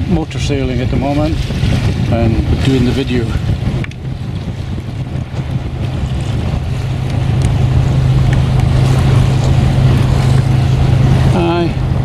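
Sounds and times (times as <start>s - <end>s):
boat engine running: 0.0s - 12.0s
rushing water: 0.0s - 12.0s
wind on microphone: 0.0s - 12.0s.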